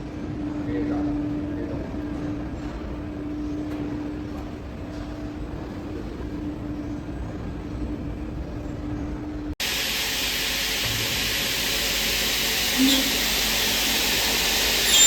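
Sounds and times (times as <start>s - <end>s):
industrial machine humming: 0.1s - 15.0s.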